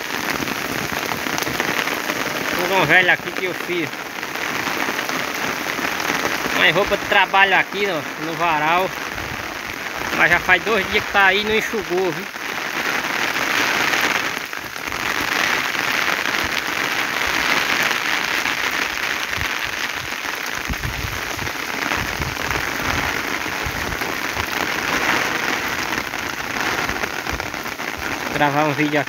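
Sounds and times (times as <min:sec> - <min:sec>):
heavy rain on vegetation: 0:00.0 - 0:29.0.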